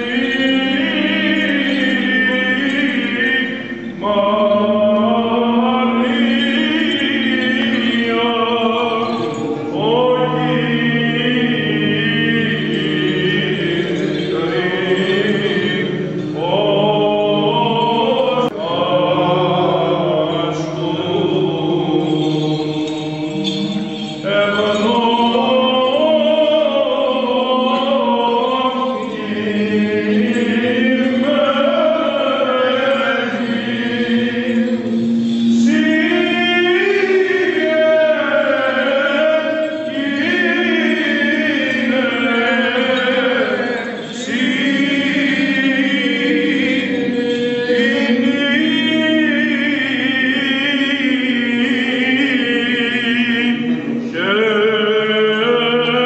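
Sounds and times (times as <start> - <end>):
low vocal drone: 0.0 - 56.0
men chanting melody: 0.0 - 56.0.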